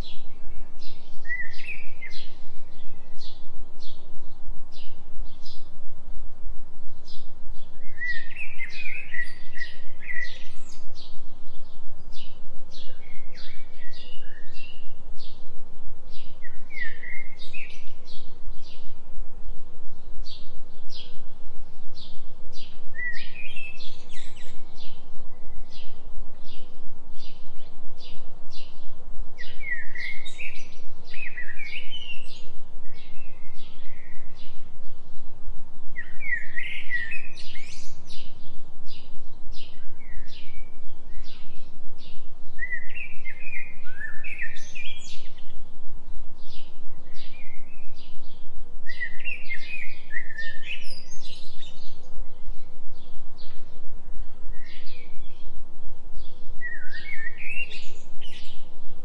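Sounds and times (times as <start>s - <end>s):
songbird singing: 0.0s - 59.0s
steady low tone: 0.0s - 59.0s.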